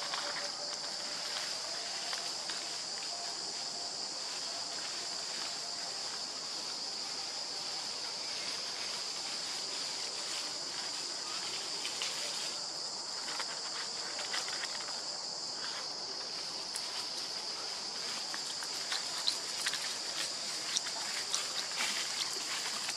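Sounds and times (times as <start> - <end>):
dry leaves rustling: 0.0 - 15.1, 16.2 - 22.9
background hiss: 0.0 - 22.9
insects droning in chorus: 0.0 - 22.9.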